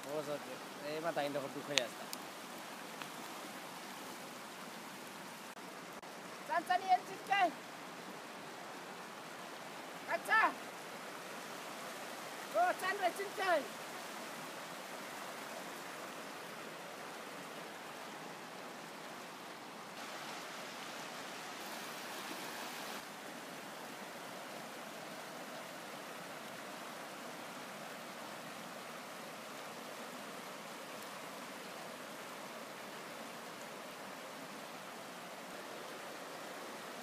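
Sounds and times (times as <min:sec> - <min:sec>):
river rushing over stones: 0:00.0 - 0:37.0.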